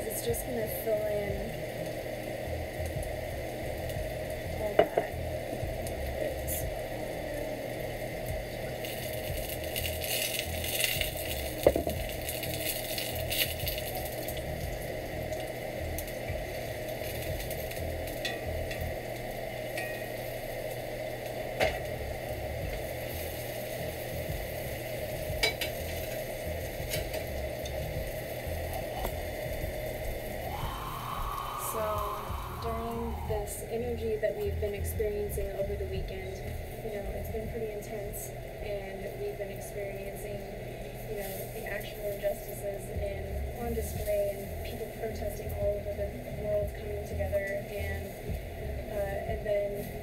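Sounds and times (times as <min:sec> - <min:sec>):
mushrooms sizzling in oil: 0:00.0 - 0:50.0.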